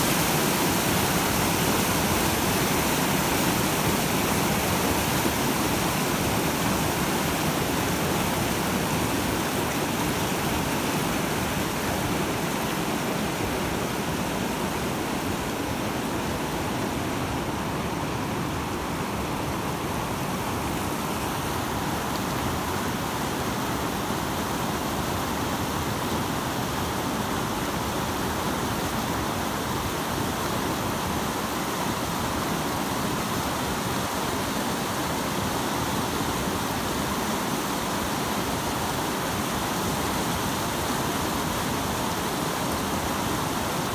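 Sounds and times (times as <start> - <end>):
whitewater rushing: 0.0 - 43.9.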